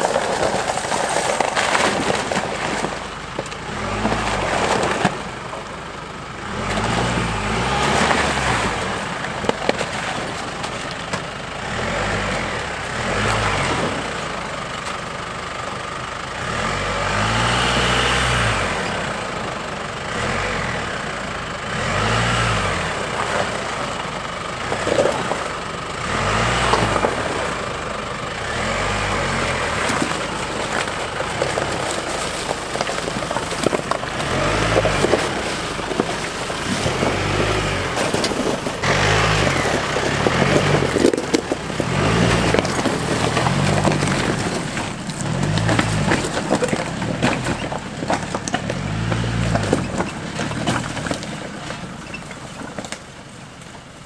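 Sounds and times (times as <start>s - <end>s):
engine revving in surges: 0.0s - 5.4s, 6.4s - 10.8s, 11.6s - 14.5s, 16.3s - 52.3s
tyres crunching on ice and stones: 0.0s - 54.0s.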